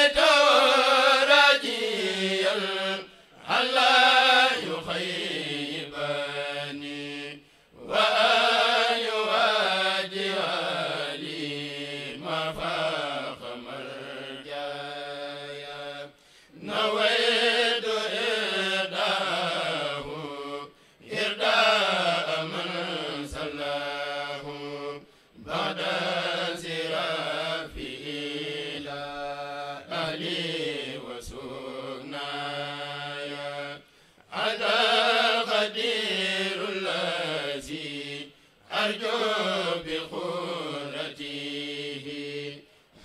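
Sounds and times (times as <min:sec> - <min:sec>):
men chanting: 0:00.0 - 0:33.8, 0:34.4 - 0:42.7.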